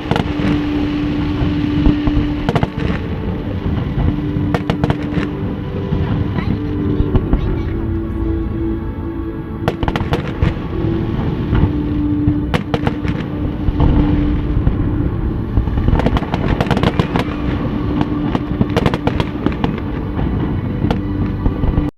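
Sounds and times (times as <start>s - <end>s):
fireworks bangs and crackling: 0.0s - 7.8s, 9.6s - 21.9s
continuous low rumble: 0.0s - 21.9s.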